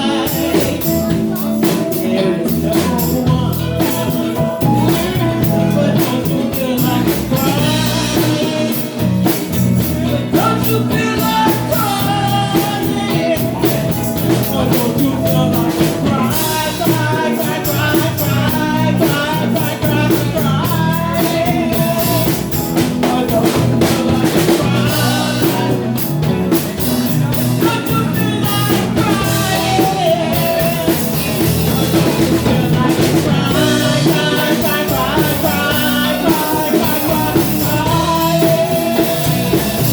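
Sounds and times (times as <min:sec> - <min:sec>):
rock song with vocals: 0:00.0 - 0:39.9.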